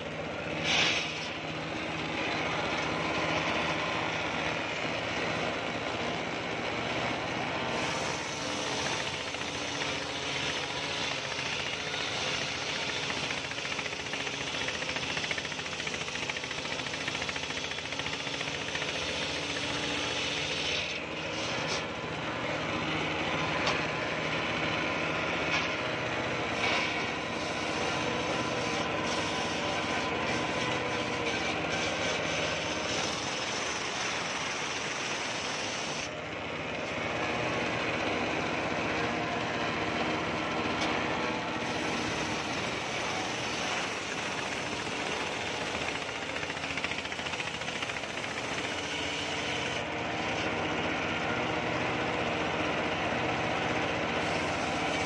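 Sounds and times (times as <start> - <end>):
table saw cutting wood: 0.0 - 55.0.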